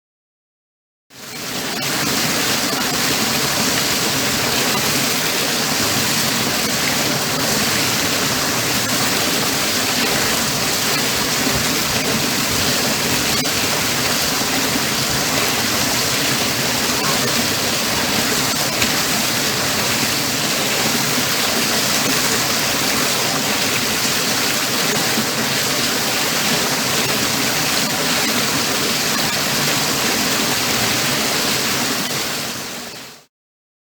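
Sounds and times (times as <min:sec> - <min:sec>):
water falling into pool: 0:01.2 - 0:32.9.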